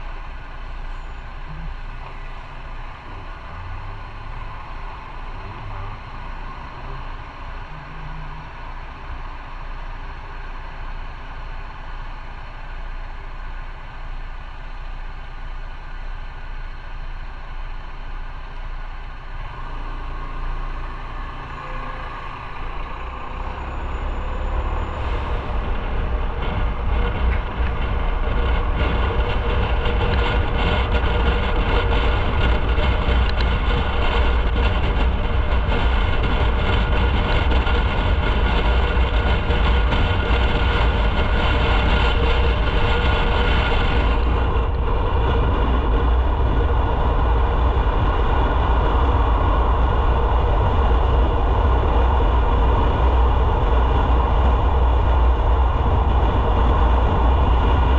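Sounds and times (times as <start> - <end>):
motorcycle engine: 0.0 - 57.9
road and wind noise: 0.0 - 57.9.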